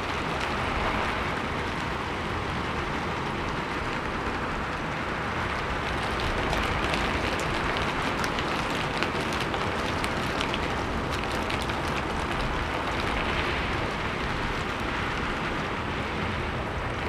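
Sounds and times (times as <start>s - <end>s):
heavy rain on a roof: 0.0s - 17.0s.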